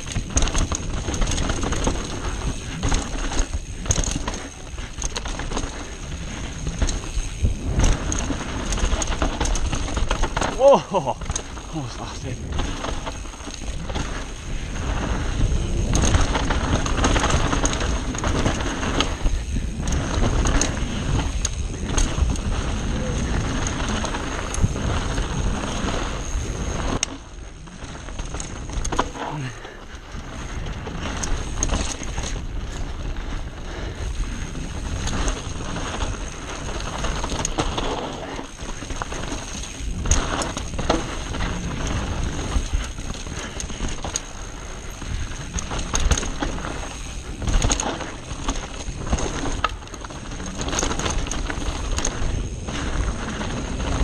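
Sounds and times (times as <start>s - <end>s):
bike chain and frame clattering: 0.0s - 54.0s
tyres on loose dirt: 0.0s - 54.0s.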